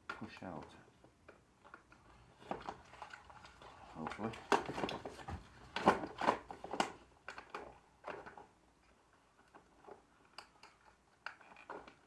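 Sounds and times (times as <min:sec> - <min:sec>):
plastic clicks and knocks: 0:00.0 - 0:12.0.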